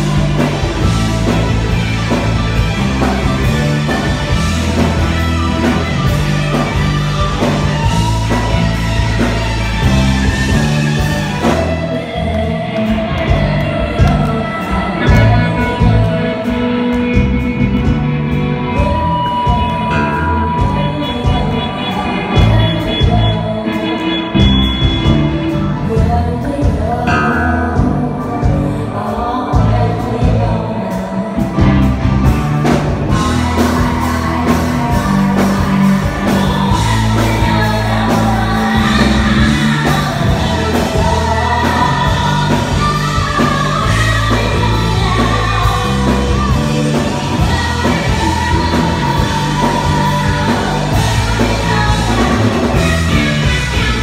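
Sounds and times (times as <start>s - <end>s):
drums: 0.0s - 54.0s
electric guitar: 0.0s - 54.0s
woman singing into microphone: 5.6s - 17.9s, 18.7s - 54.0s.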